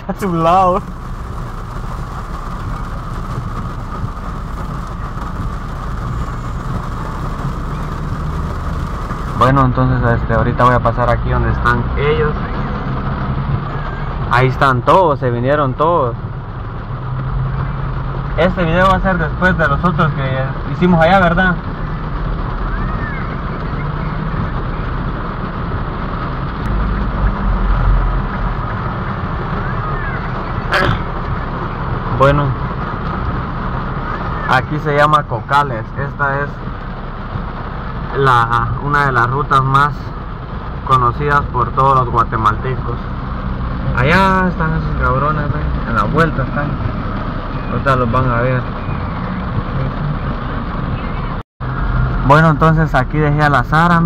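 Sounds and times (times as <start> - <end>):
car driving in heavy rain: 0.0 - 54.0
low rumble: 0.0 - 54.0
road noise: 0.0 - 54.0.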